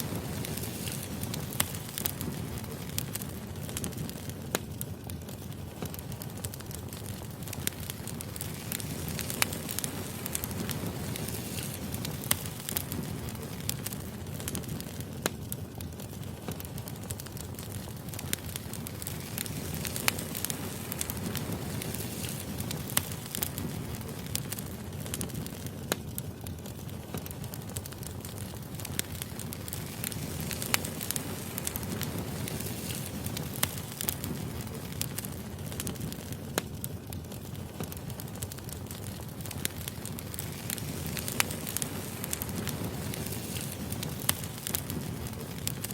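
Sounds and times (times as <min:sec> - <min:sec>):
firewood crackling and popping: 0:00.0 - 0:45.9
low rumble of flame: 0:00.0 - 0:45.9.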